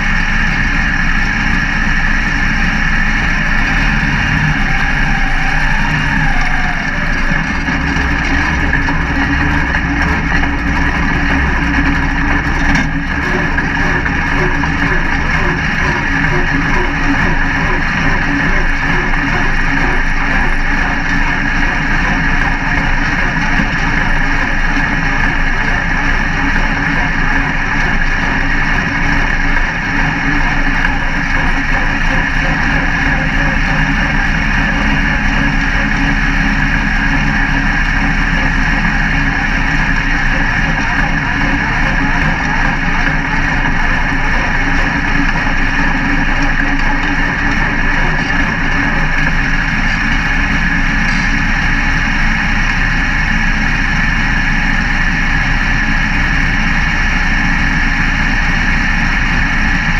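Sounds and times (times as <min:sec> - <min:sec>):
race car engine idling: 0:00.0 - 0:59.9.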